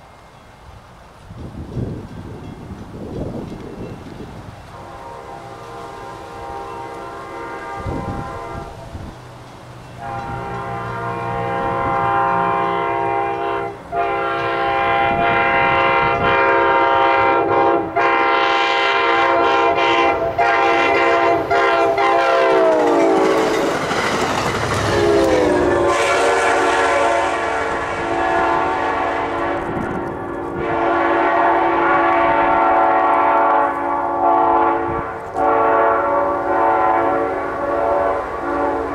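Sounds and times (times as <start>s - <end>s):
locomotive air horn blasts: 4.7s - 9.0s, 10.0s - 23.5s, 24.9s - 38.9s.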